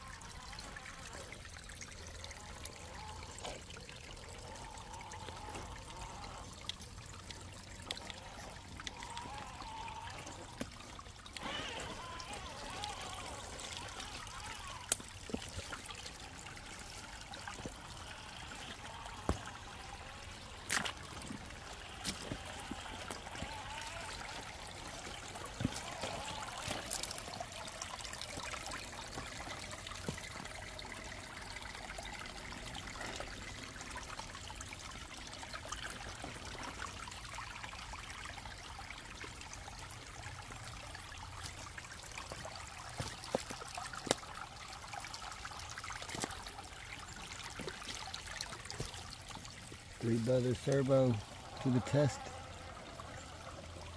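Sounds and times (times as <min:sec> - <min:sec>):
creek water trickling over rocks: 0:00.0 - 0:53.9.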